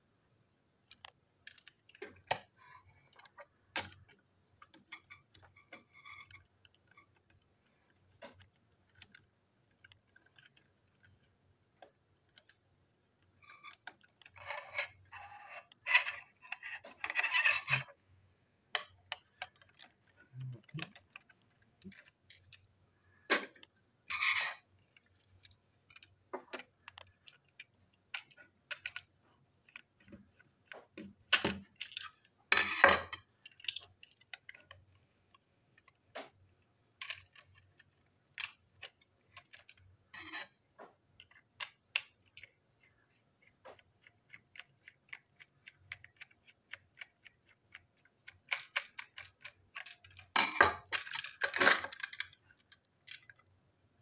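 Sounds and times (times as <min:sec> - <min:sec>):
plastic toy parts clicking: 0:00.8 - 0:18.0, 0:18.7 - 0:22.7, 0:23.3 - 0:53.6.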